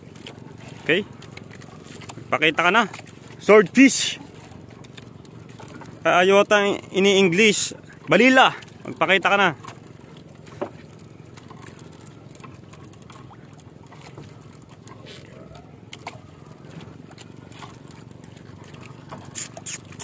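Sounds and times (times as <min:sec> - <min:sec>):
fishing net hauled by hand: 0:00.0 - 0:20.0
sea water washing around boat: 0:00.0 - 0:20.0
small water splashes: 0:00.0 - 0:20.0.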